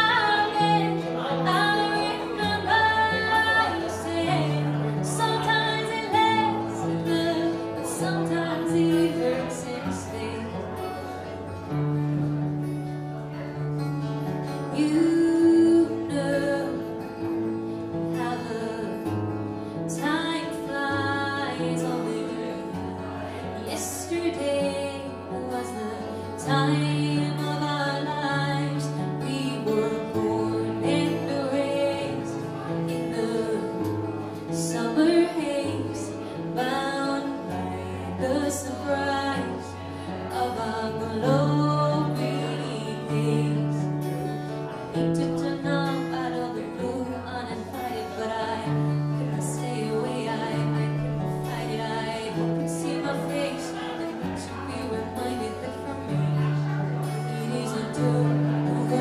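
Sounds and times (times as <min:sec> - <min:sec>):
woman singing: 0:00.0 - 0:11.2, 0:14.5 - 0:59.0
acoustic guitar: 0:00.0 - 0:59.0.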